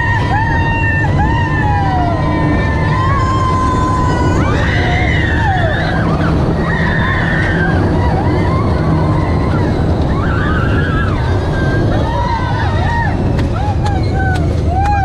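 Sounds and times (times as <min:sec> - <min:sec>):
ride vehicle rush and rumble: 0:00.0 - 0:15.0.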